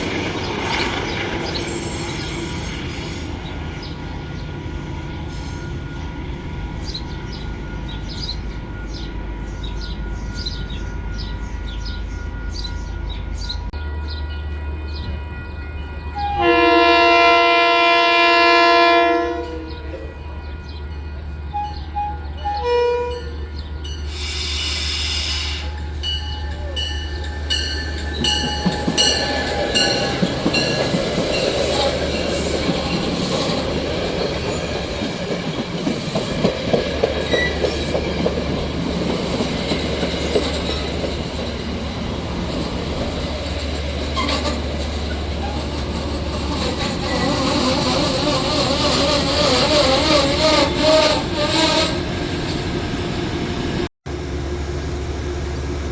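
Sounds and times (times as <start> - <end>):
low train rumble: 0.0 - 55.9.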